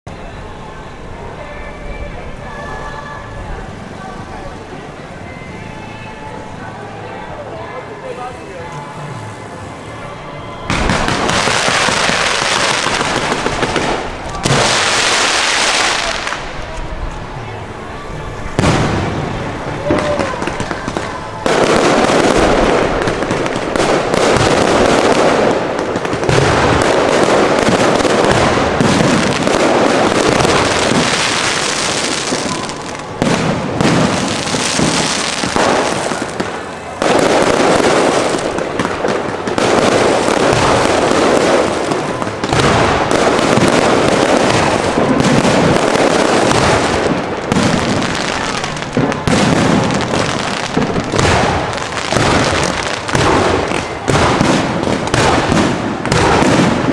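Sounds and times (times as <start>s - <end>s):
fireworks crackling: 0.1s - 56.9s.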